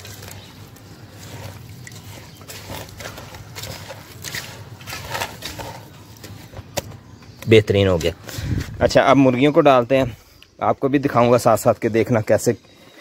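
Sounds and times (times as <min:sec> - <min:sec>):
hand squelching wet mash: 0:00.0 - 0:13.0.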